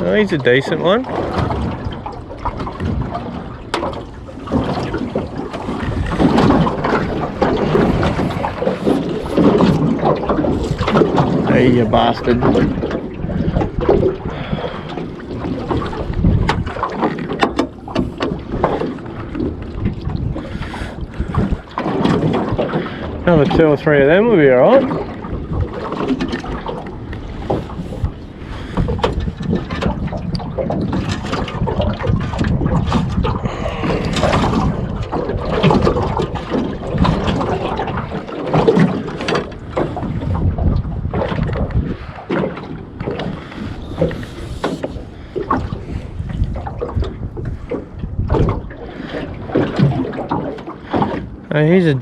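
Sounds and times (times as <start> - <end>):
water slapping boat hull: 0.0 - 52.0
wind buffeting microphone: 0.0 - 52.0.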